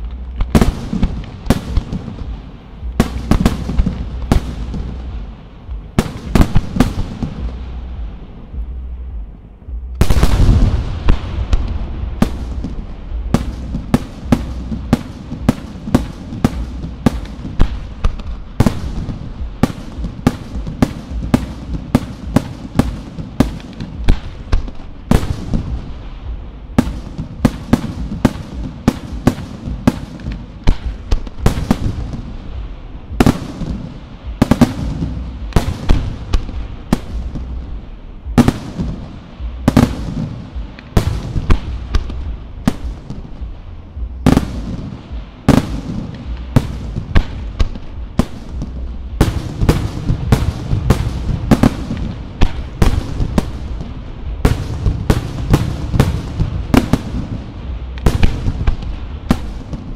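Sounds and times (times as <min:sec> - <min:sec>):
fireworks bangs with echo: 0:00.0 - 0:09.3, 0:09.9 - 0:59.9
continuous low rumble: 0:00.0 - 0:59.9.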